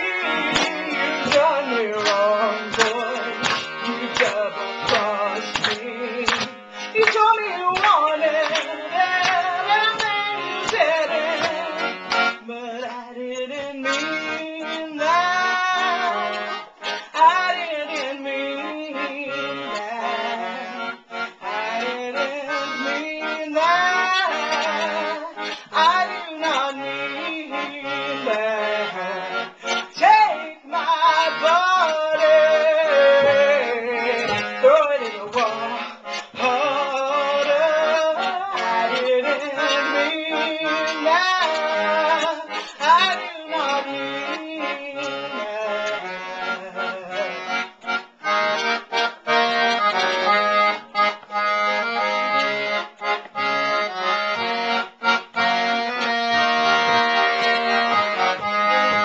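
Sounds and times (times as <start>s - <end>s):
woman singing with vibrato: 0.0s - 48.2s
accordion chords: 0.0s - 59.0s.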